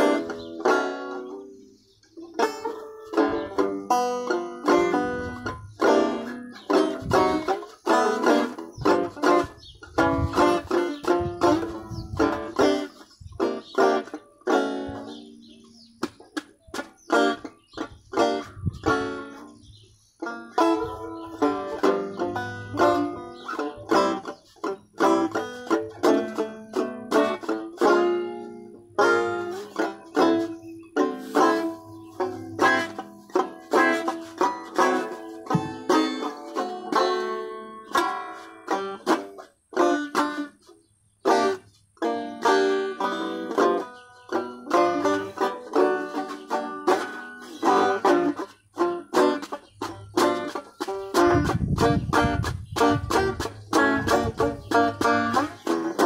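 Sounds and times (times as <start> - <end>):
banjo fingerpicking: 0.0 - 56.0.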